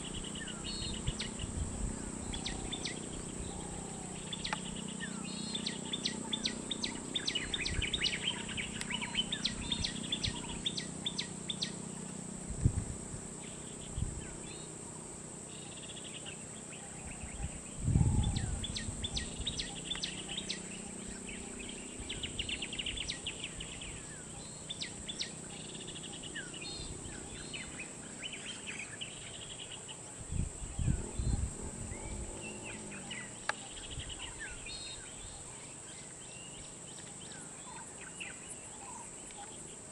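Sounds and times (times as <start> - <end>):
birds chirping: 0.0 - 12.4, 13.3 - 39.9
low hum: 0.0 - 39.7.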